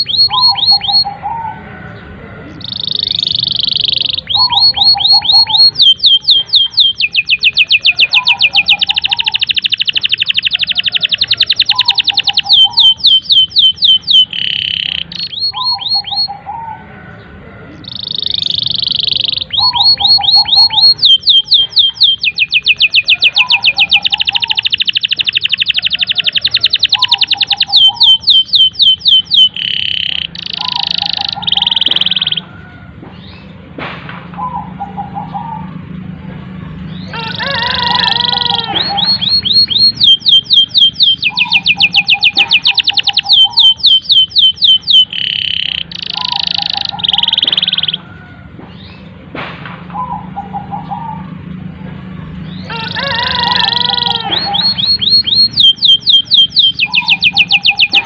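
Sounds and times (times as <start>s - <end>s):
canary singing fast trills: 0.0s - 16.8s, 17.7s - 33.6s, 36.8s - 49.2s, 52.3s - 58.0s.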